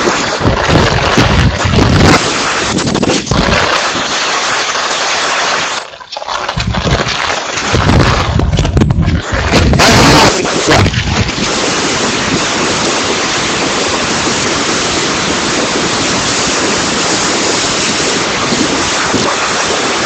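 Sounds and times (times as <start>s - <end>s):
wind buffeting microphone: 0.0s - 3.7s, 6.6s - 20.0s.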